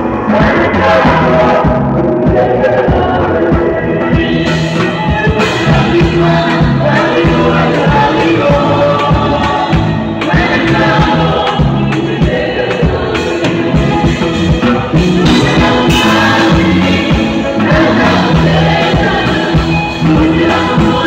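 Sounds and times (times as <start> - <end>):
gospel band playing: 0.0 - 21.0
steady drum beat: 0.0 - 21.0
voices singing: 0.0 - 21.0.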